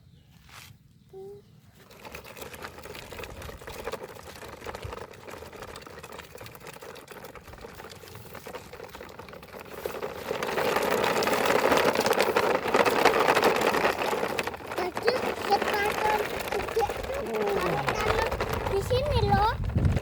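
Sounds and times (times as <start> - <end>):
toy electric motor whirring: 1.8 - 20.0.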